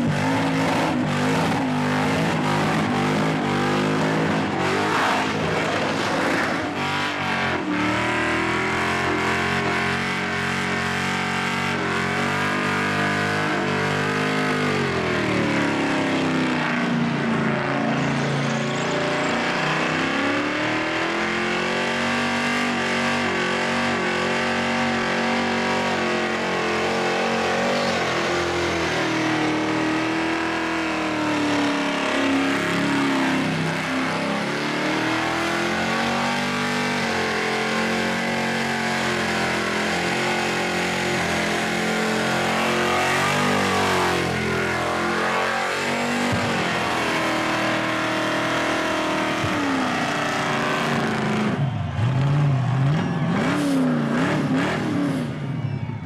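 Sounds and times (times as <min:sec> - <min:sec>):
car engine revving high: 0:00.0 - 0:55.7.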